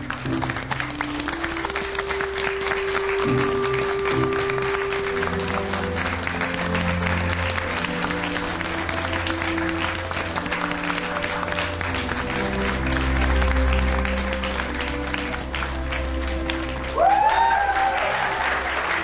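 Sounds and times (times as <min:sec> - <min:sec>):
background music held notes: 0:00.0 - 0:19.0
crowd applauding: 0:00.0 - 0:19.0.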